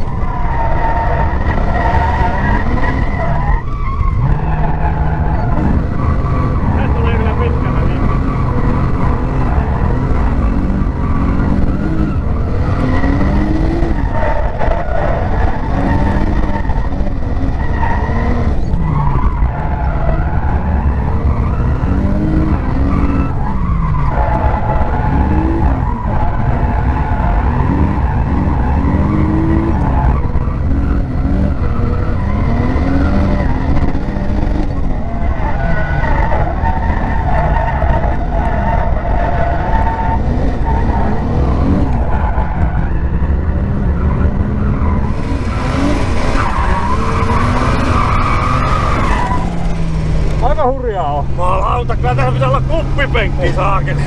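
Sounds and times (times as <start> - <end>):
car engine revving: 0.0 - 54.0
tyres skidding: 0.0 - 54.0.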